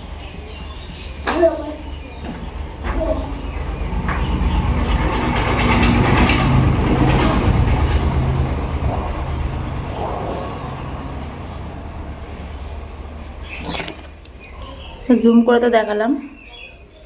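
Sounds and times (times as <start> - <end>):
motor vehicle engine passing: 0.0 - 14.0.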